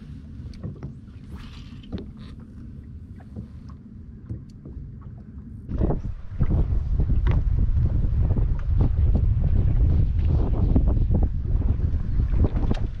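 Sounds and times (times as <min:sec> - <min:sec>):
low rumble on boat deck: 0:00.0 - 0:13.0.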